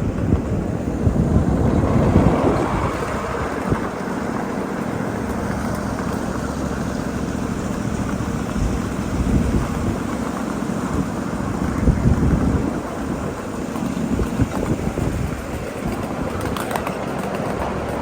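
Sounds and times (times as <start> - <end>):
miniature train wheels rumbling: 0.0 - 18.0.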